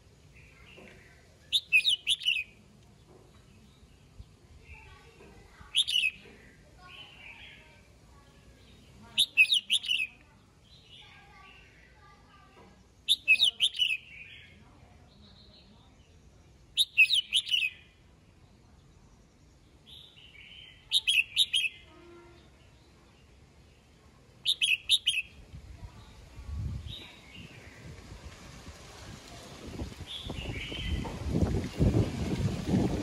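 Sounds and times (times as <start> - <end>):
soft bird calls: 0.3 - 19.0, 19.6 - 28.2
bird singing warbled phrases: 0.3 - 28.0, 29.6 - 31.1.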